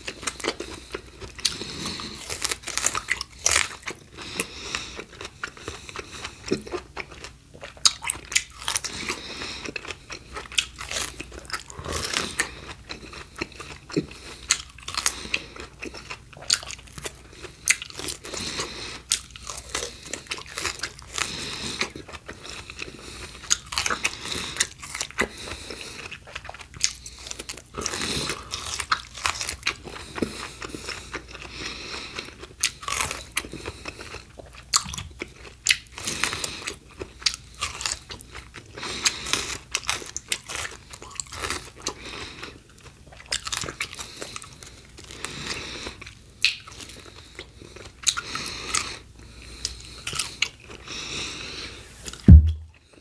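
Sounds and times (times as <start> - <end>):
crunchy biting and chewing: 0.0 - 53.0.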